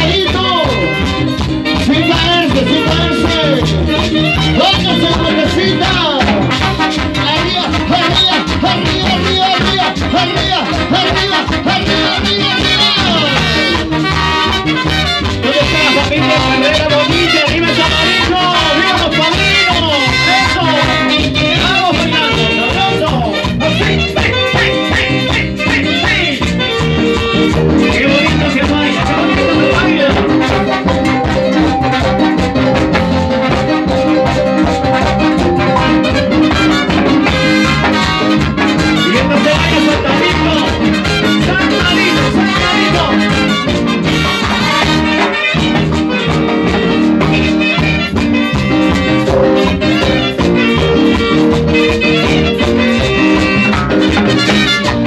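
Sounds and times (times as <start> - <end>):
brass section: 0.0 - 55.0
latin dance band playing: 0.0 - 55.0.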